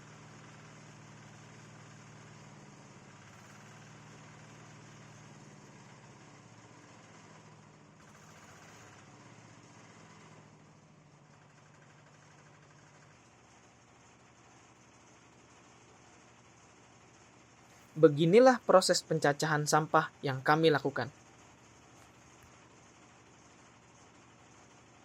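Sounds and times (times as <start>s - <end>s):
shredding machine motor hum: 0.0s - 25.0s.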